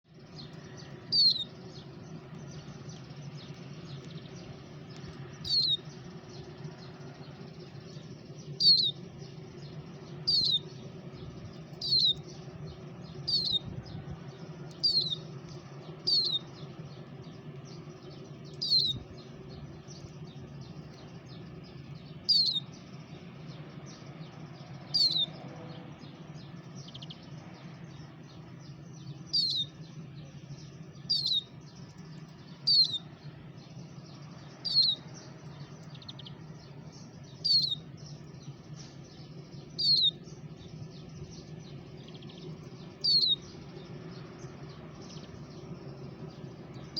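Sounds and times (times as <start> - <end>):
songbird chirping: 0.0 - 46.9
low hum: 0.1 - 46.9.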